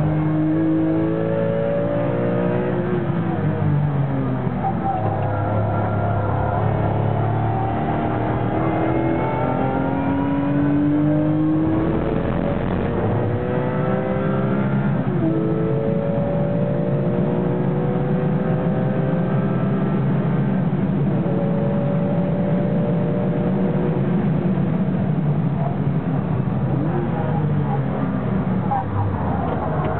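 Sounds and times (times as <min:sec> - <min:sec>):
race car engine accelerating: 0:00.0 - 0:24.8.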